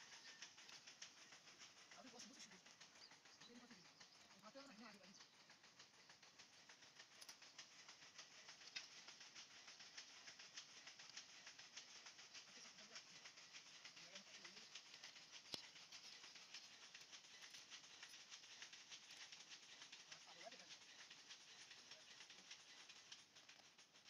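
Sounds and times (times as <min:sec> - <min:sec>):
fine ticking: 0:00.0 - 0:24.0.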